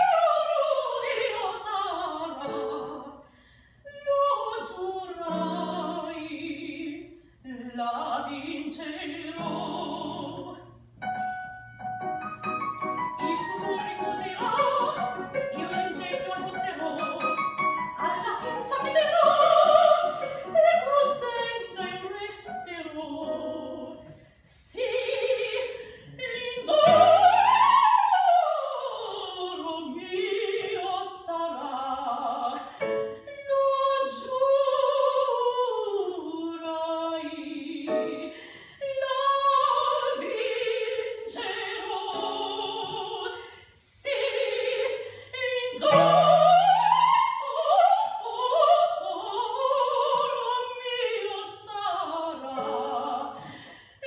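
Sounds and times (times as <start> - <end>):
woman singing opera: 0.0 - 3.2, 3.8 - 10.8, 12.5 - 54.0.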